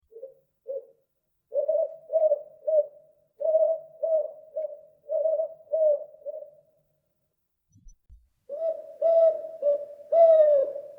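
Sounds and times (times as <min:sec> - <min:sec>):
owl hooting: 0:00.1 - 0:06.6, 0:08.5 - 0:10.9.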